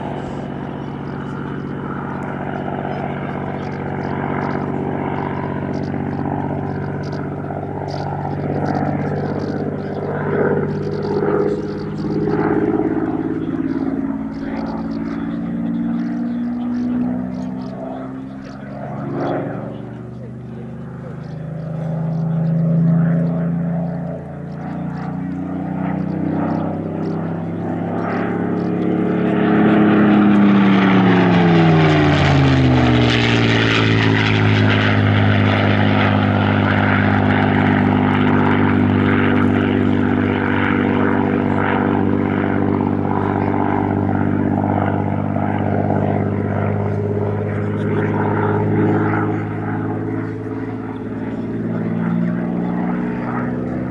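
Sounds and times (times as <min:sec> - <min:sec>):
aircraft engine droning: 0:00.0 - 0:53.9.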